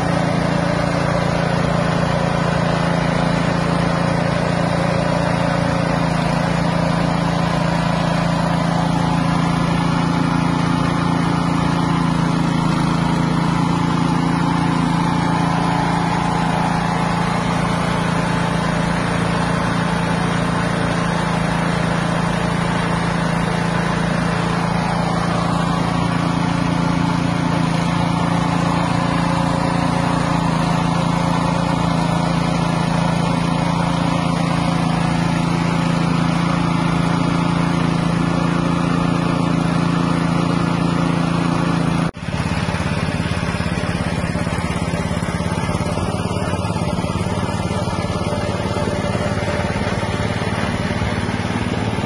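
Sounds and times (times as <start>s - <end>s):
small engine running steadily: 0.0s - 52.0s.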